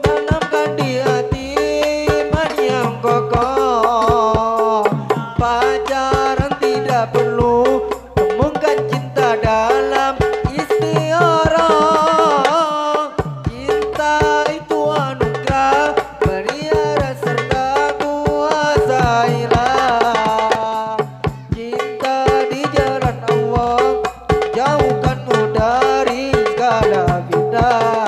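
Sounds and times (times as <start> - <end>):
frame drums playing busy rhythm: 0.0 - 28.0.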